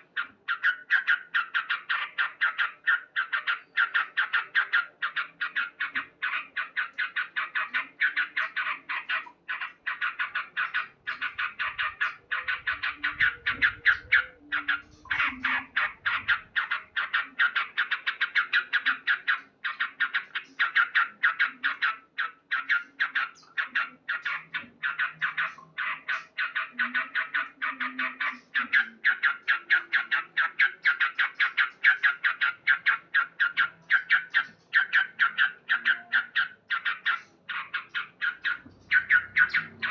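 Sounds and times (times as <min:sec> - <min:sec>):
bulbul chattering call: 0:00.0 - 0:39.9.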